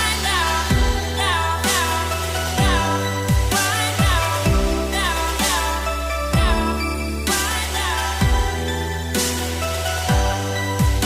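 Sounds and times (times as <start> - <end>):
heavy bass beat: 0.0 - 11.0
synth melody: 0.0 - 11.0.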